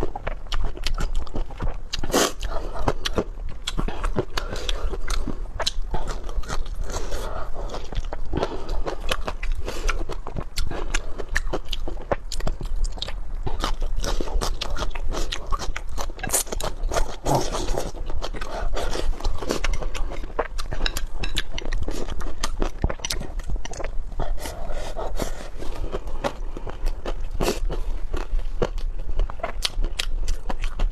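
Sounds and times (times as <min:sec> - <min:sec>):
person chewing and crunching food: 0:00.0 - 0:30.9.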